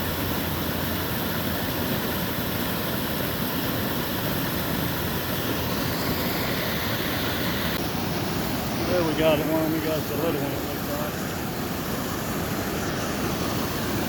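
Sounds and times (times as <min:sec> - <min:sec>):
river water pouring over a dam: 0:00.0 - 0:14.0.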